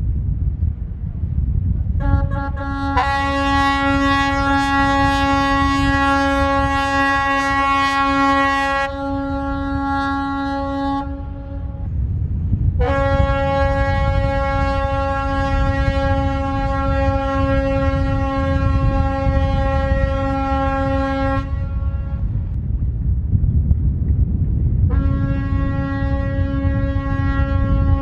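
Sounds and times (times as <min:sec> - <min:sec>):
wind rumble on microphone: 0:00.0 - 0:28.0
ship's horns blasting: 0:02.0 - 0:12.0, 0:12.8 - 0:22.5, 0:24.9 - 0:28.0.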